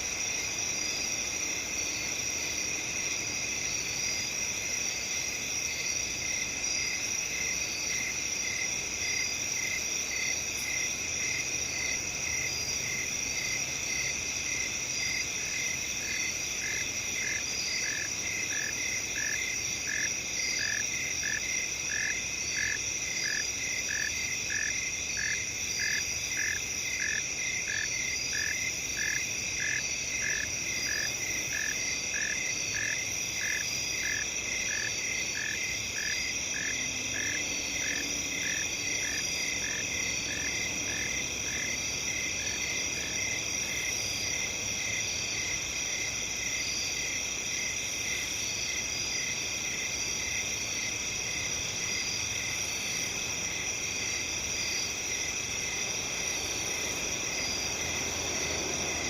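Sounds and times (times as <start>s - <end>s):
crickets and insects trilling: 0.0s - 59.0s
lower pulsing insect call: 0.0s - 59.0s.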